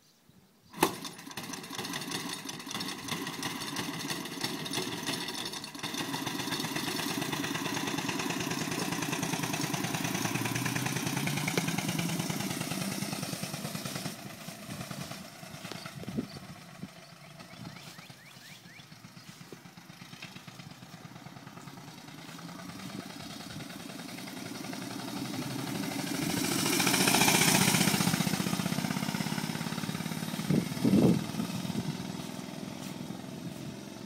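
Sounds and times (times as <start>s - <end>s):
scooter engine popping: 0.8s - 34.0s
scooter engine starting with a bang: 0.8s - 34.0s.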